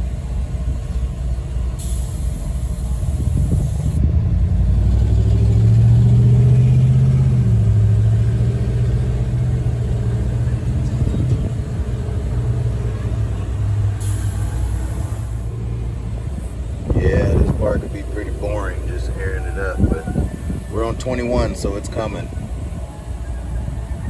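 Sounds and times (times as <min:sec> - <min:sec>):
air pump humming: 0:00.0 - 0:04.0, 0:07.1 - 0:24.0.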